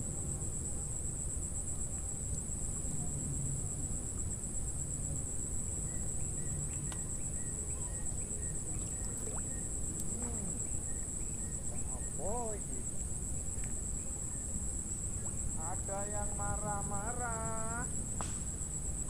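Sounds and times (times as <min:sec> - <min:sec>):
insect trill chorus: 0:00.2 - 0:19.0.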